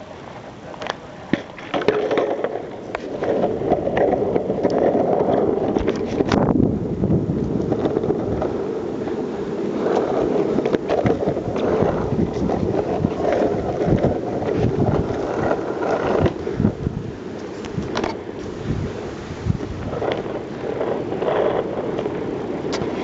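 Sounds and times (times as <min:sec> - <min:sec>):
longboard wheels rolling on pavement: 0:00.0 - 0:23.0
wheels clicking and knocking: 0:00.3 - 0:18.6, 0:19.5 - 0:23.0.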